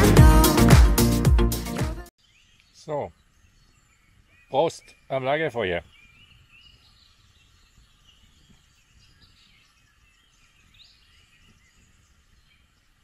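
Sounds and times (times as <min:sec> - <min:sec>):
birdsong chirps and whistles: 0:02.2 - 0:13.0.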